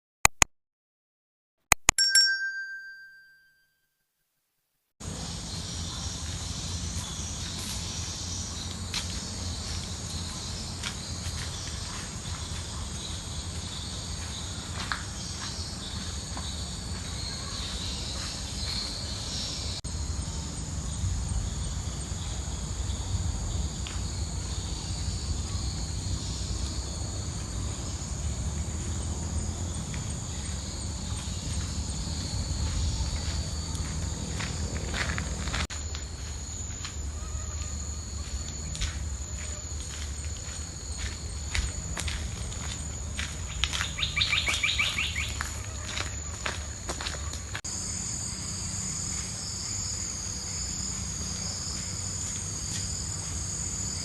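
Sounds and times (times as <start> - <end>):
insects chirring: 5.0 - 54.0.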